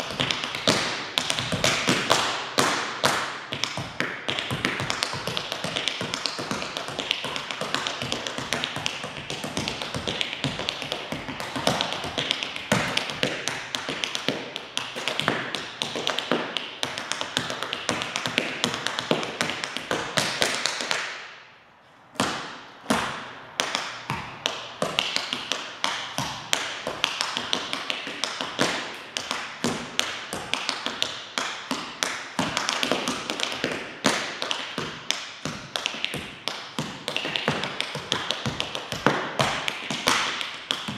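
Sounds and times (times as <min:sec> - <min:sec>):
tap shoes striking floor: 0:00.0 - 0:21.1, 0:22.2 - 0:40.9.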